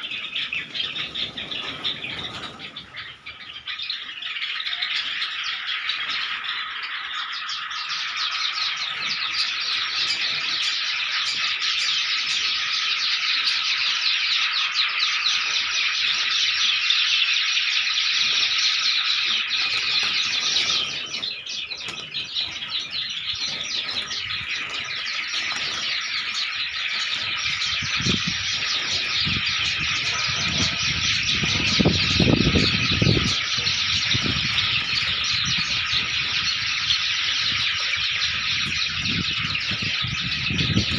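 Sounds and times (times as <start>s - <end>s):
sparrows chirping and squeaking: 0.0s - 40.9s.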